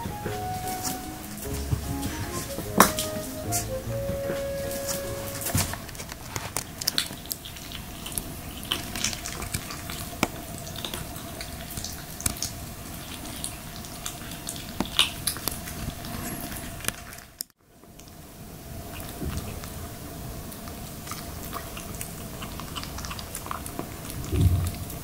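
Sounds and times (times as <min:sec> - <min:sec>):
kittens chewing and lapping food: 0:04.4 - 0:25.0.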